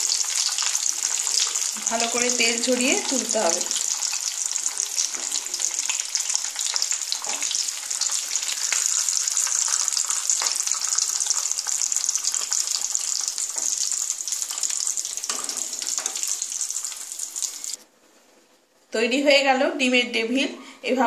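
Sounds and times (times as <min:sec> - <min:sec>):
oil sizzling and crackling: 0:00.0 - 0:17.8.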